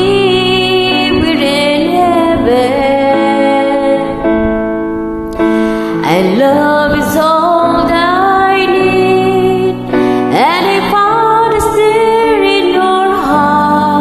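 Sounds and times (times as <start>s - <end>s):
woman singing: 0.0s - 4.8s, 5.8s - 14.0s
karaoke backing track: 0.0s - 14.0s.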